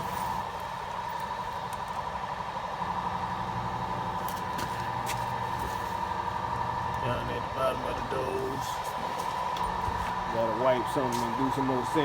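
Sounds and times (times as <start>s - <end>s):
mechanical hum with high tone: 0.0s - 12.0s.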